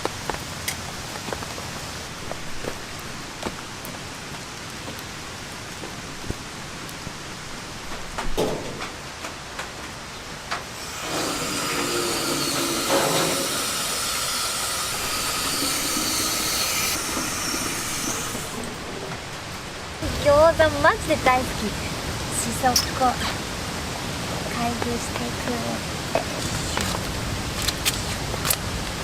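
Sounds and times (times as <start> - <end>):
loud steady hiss: 0.0 - 29.0
rain falling: 0.0 - 29.0.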